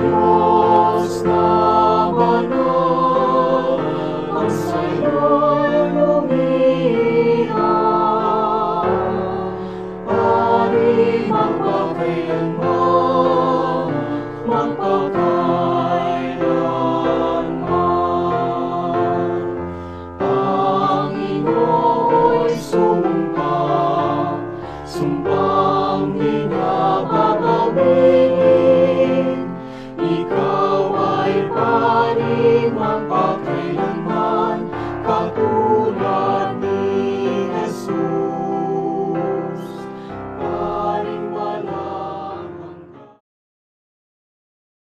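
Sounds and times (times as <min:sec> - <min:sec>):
choir singing: 0:00.0 - 0:43.2
musical accompaniment: 0:00.0 - 0:43.2.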